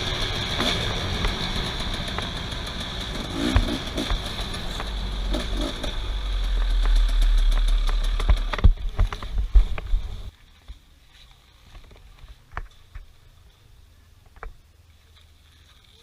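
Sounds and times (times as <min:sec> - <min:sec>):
vehicle engine rumbling: 0:00.0 - 0:15.4.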